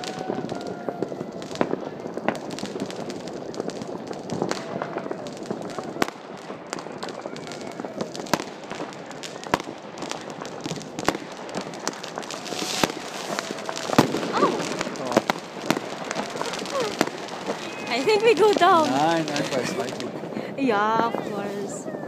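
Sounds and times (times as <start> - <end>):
firework bangs: 0.0 - 22.0
fireworks crackling: 0.0 - 22.0.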